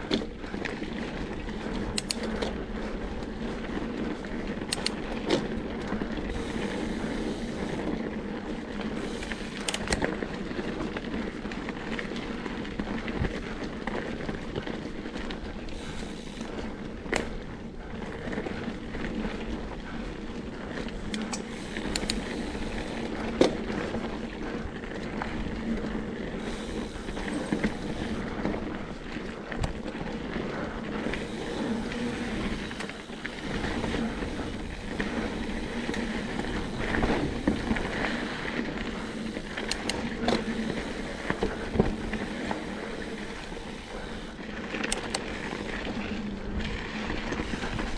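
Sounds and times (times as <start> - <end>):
bike knocking and rattling: 0.0 - 47.9
bike tyres rolling on dirt: 0.0 - 47.9.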